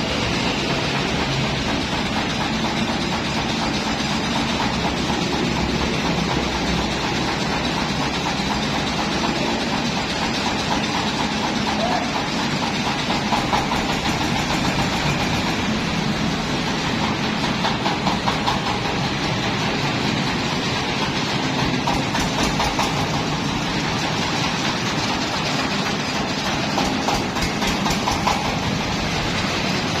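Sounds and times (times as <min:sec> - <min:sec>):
rice milling machine clattering: 0:00.0 - 0:30.0.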